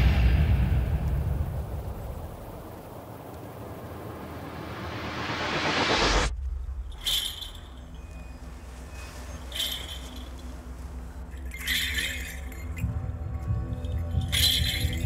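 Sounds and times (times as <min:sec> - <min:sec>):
low steady drone: 0:00.0 - 0:15.0.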